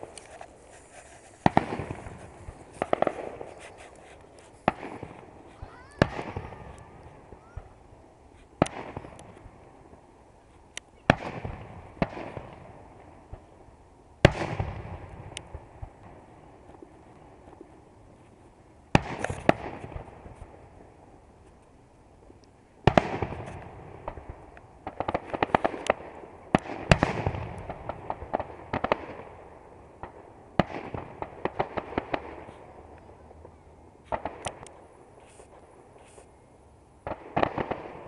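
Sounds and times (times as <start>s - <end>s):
fireworks bangs: 0.0s - 10.1s, 11.0s - 13.5s, 14.2s - 17.9s, 18.9s - 21.0s, 22.8s - 33.2s, 34.0s - 36.3s, 37.0s - 38.0s
fireworks crackling pops: 0.0s - 13.6s, 14.2s - 36.4s, 37.0s - 38.0s.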